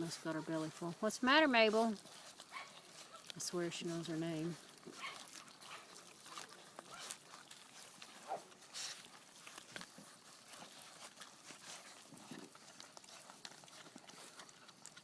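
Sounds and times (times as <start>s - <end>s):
puppies chewing and smacking: 0.0s - 15.0s.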